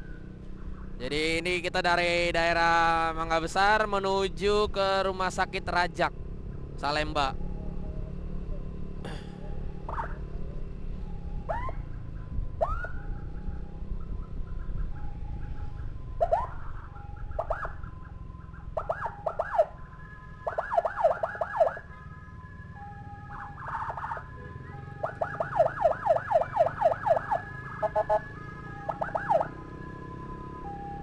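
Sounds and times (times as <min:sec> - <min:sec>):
motorcycle rumble: 0:00.0 - 0:01.3, 0:01.9 - 0:31.0
emergency sirens yelping: 0:00.0 - 0:31.0.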